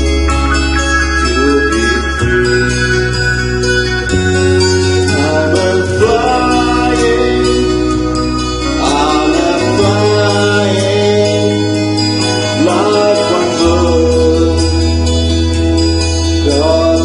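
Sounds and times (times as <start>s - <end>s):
karaoke backing music: 0.0s - 17.0s.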